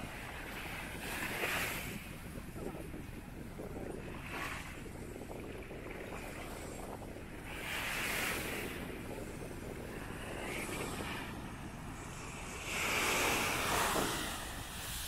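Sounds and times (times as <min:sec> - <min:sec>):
surf washing up beach: 0:00.0 - 0:15.0
wind rumbling on microphone: 0:00.0 - 0:15.0.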